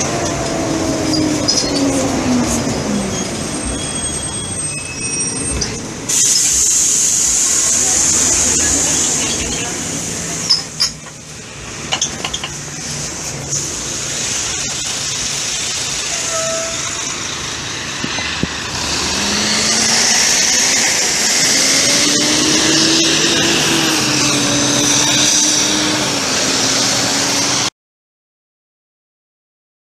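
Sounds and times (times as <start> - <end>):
bus diesel engine: 0.0 - 27.7
road noise: 0.0 - 27.7.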